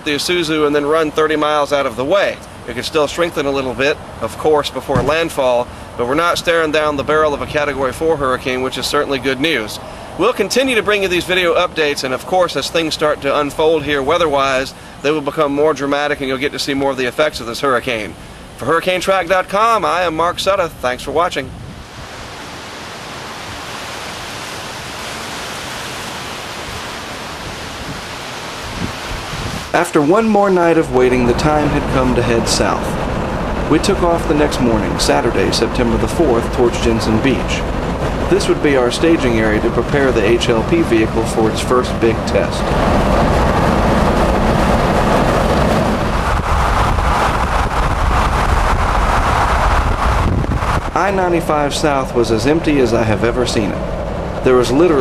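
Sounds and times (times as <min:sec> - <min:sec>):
hurricane wind and rain: 0:00.0 - 0:55.0.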